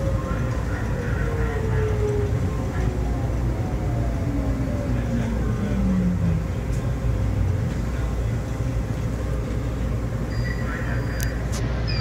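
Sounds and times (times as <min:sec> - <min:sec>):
train car rumble: 0:00.0 - 0:12.0.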